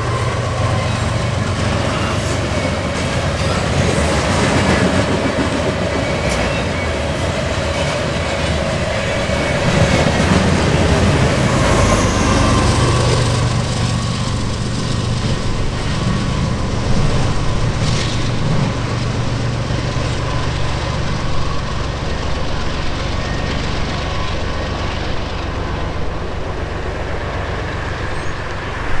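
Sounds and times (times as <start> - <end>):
steel wheels rumbling on track: 0.0 - 29.0.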